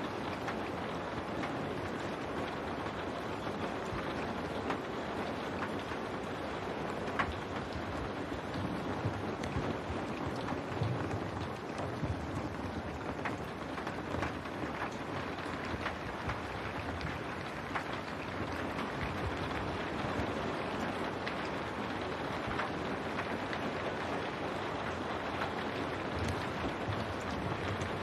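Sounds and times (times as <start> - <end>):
rain against window glass: 0.0 - 28.0
sharp raindrop ticks: 0.0 - 28.0.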